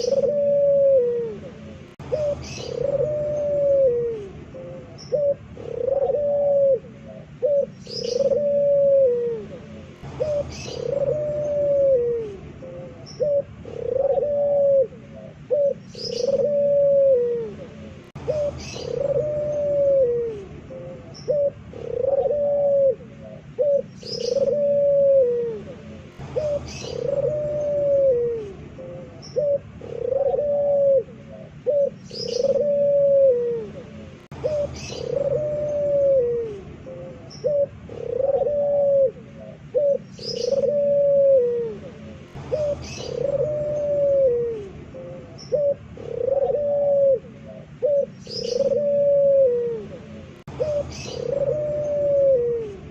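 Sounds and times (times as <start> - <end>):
dove cooing loudly: 0.0 - 52.9.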